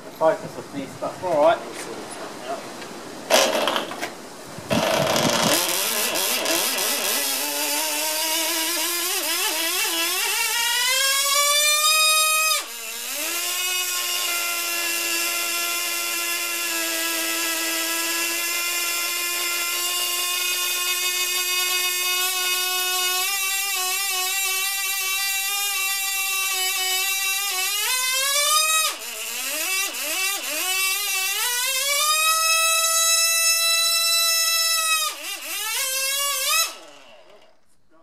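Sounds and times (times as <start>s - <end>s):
model engine high-pitched whine: 4.7s - 37.8s.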